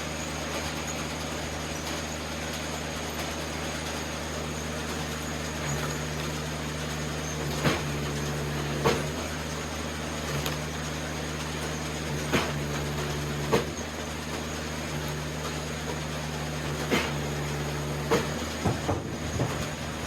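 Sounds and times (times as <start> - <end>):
wood splitter engine running: 0.0 - 20.0.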